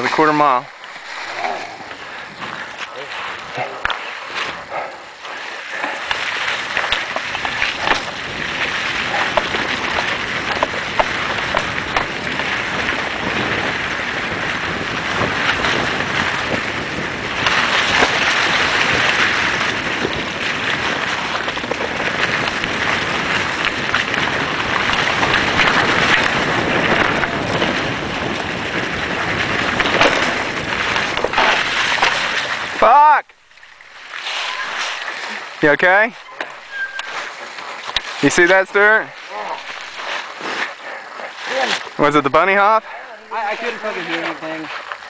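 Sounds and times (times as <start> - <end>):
wind on microphone: 0.0 - 32.9, 33.6 - 45.0
bike rattling over bumps: 0.0 - 45.0
tyres rolling through leaves: 0.0 - 45.0.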